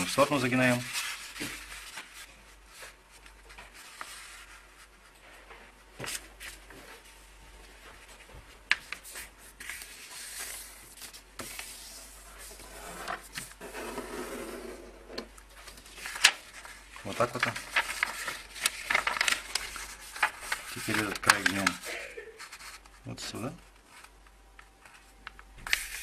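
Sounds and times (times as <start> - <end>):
paper rustling and crinkling: 0.0 - 13.7, 15.5 - 26.0.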